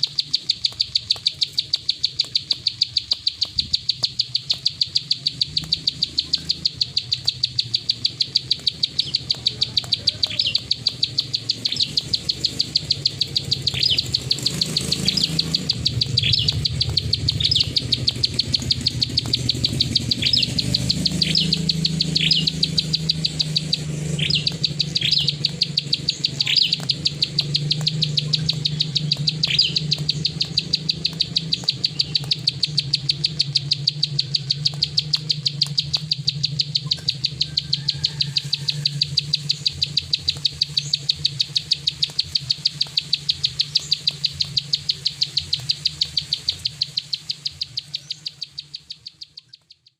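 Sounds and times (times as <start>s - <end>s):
bird clicking call: 0.0s - 49.9s
short downward-sweeping bird notes: 0.0s - 49.9s.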